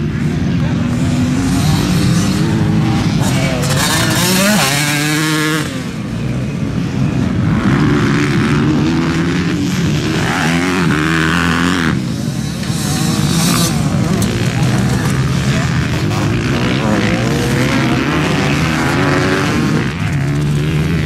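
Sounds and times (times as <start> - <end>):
vehicle engines revving: 0.0 - 21.0.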